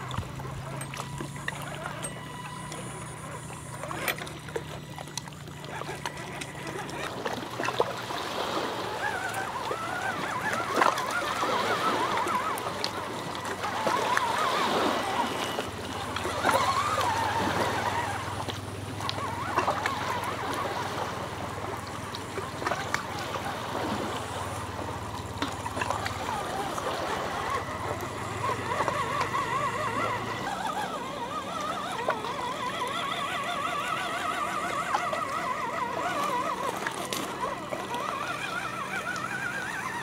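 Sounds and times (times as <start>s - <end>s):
electric motor and gears whining: 0.0s - 40.0s.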